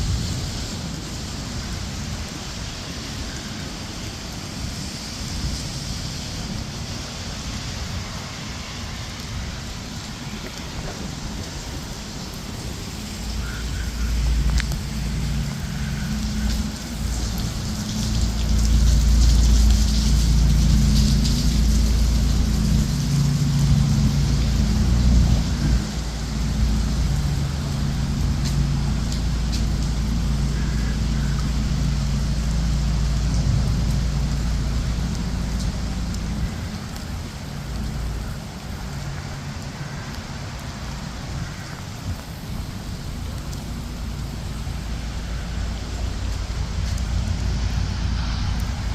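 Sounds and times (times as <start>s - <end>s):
rain falling: 0.0s - 48.9s
heavy low rumble: 4.2s - 48.9s.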